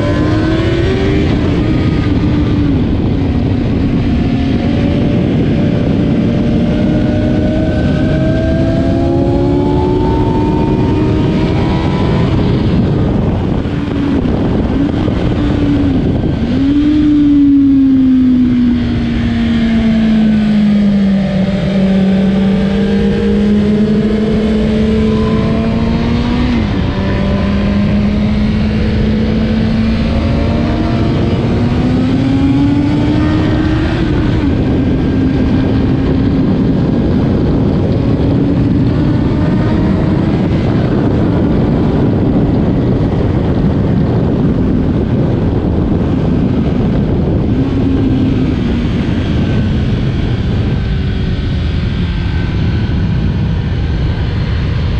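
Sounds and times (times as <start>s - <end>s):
motorcycle engine at high revs: 0.0s - 54.9s
wind rush on microphone: 0.0s - 54.9s.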